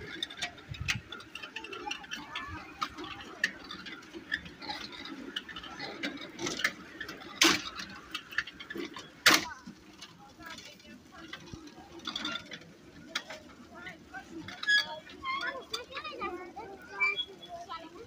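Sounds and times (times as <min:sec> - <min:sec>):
small train clicking and rattling: 0:00.0 - 0:18.0.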